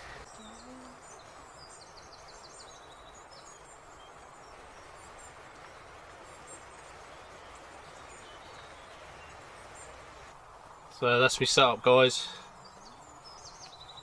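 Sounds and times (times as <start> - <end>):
faint steady hiss: 0.0 - 14.0
small birds chirping: 0.0 - 14.0.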